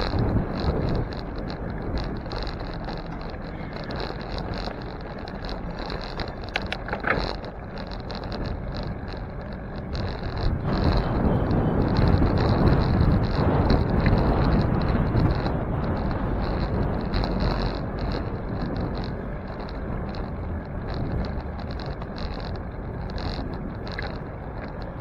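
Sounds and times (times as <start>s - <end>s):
sharp clicks: 0.0s - 25.0s
tyres rumbling on road: 0.0s - 25.0s
wind rushing over microphone: 0.0s - 25.0s.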